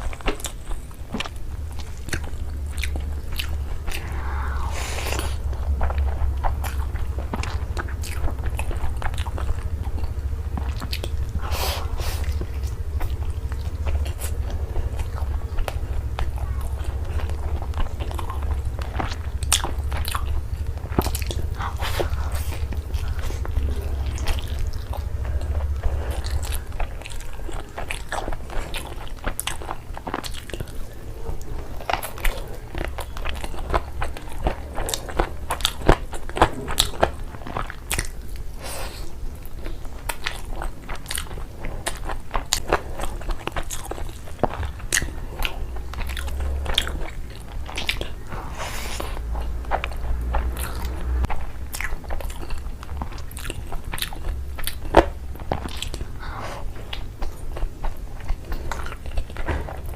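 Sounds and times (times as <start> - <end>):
chewing and biting: 0.0 - 59.9
steady low hum: 0.0 - 59.9.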